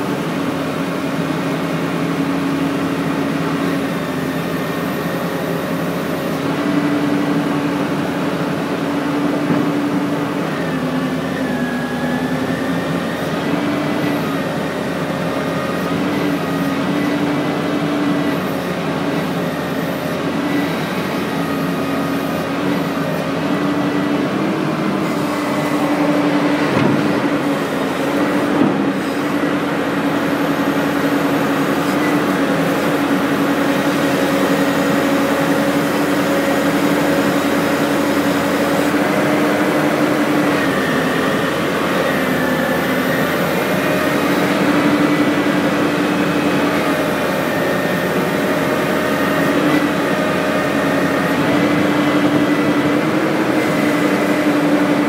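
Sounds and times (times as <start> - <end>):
excavator engine and hydraulics whine: 0.0 - 55.0.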